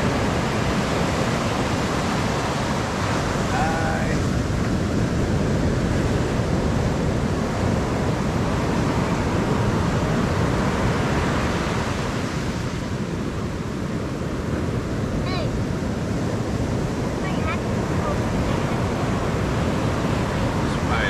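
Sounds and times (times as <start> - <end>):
ocean surf washing on shore: 0.0 - 21.0
wind buffeting microphone: 0.0 - 21.0.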